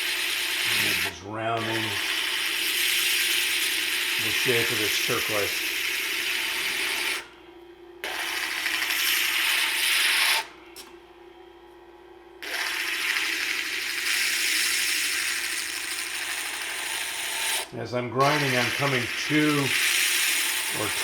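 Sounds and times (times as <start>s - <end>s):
stone grinding on spinning disc: 0.0s - 7.3s, 8.0s - 10.5s, 12.4s - 21.0s
grinder motor hum: 0.0s - 11.5s, 12.3s - 21.0s.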